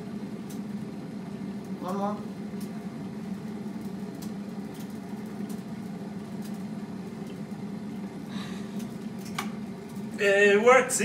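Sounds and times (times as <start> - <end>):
pot of water boiling: 0.0 - 10.7.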